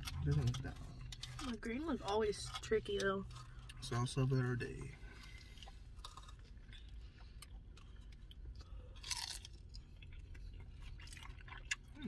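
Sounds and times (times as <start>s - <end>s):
person chewing crispy taco: 0.0s - 12.0s.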